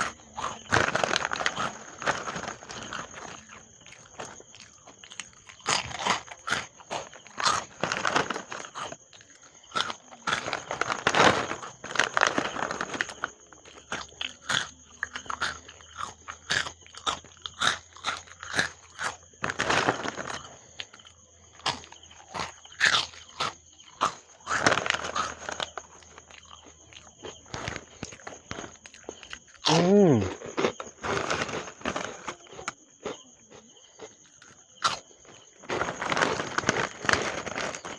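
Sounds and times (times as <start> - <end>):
chewing: 0.0 - 37.9
crunching crackers: 0.0 - 37.9.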